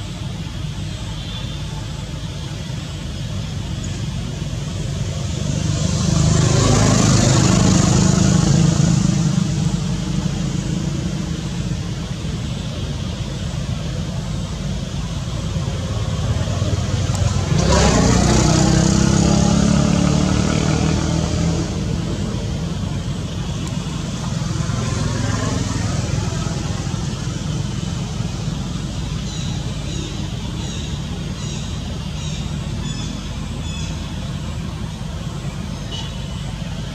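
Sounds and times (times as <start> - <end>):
road traffic: 0.0 - 36.9
vehicle passing: 4.3 - 12.2, 14.0 - 35.8.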